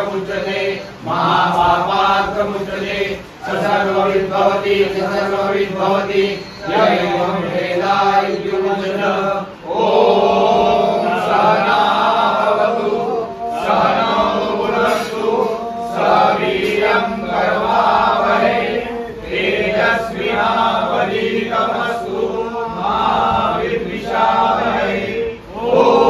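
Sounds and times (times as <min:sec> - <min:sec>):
group of voices chanting: 0:00.0 - 0:26.0.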